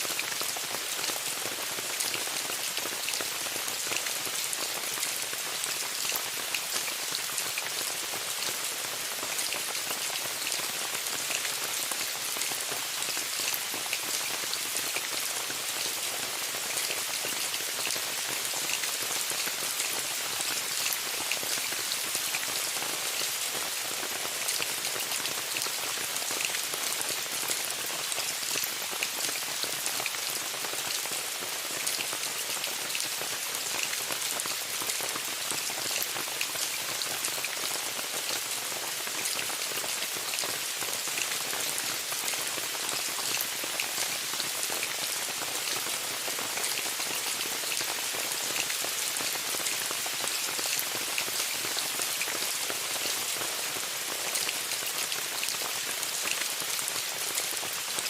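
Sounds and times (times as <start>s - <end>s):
rain pattering on a tent: 0.0s - 58.0s.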